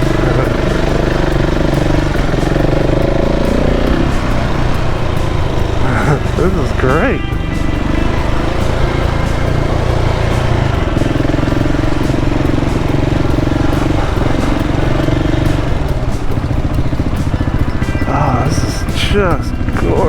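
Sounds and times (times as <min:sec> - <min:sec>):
motorcycle engine revving while riding: 0:00.0 - 0:20.0.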